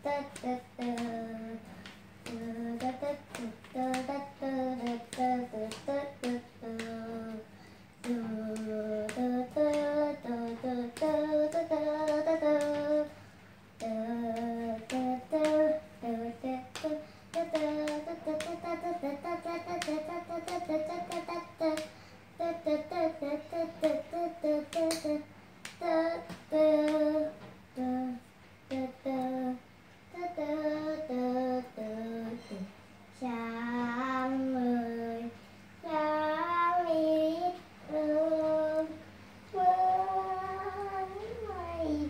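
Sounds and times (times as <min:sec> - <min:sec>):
child singing: 0:00.0 - 0:13.2, 0:13.8 - 0:42.0.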